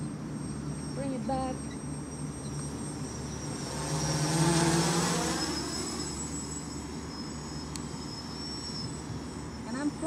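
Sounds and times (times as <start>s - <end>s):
drone motors buzzing: 0.0s - 10.0s.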